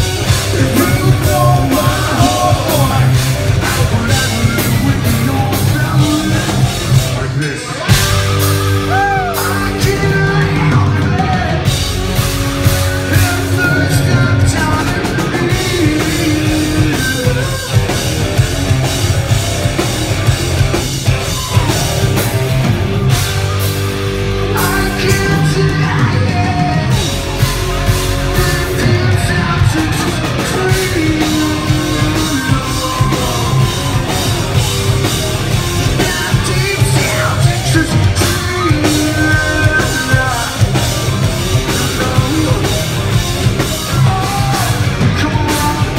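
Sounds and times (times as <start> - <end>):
distorted electric guitar: 0.0 - 45.9
drum kit: 0.0 - 45.9
singer belting and yelling: 0.0 - 45.9.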